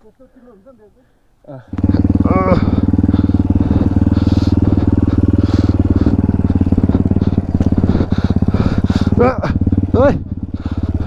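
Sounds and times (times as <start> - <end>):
dirt bike engine running: 1.7 - 11.0.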